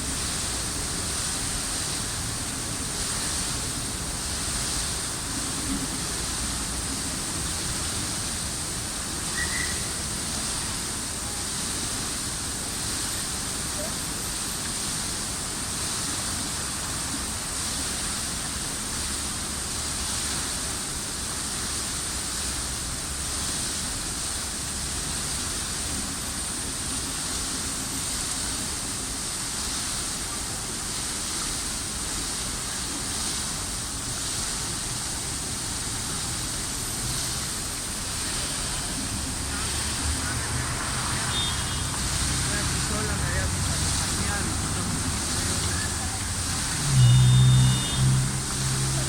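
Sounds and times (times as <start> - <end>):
fountain water splashing: 0.0 - 49.0.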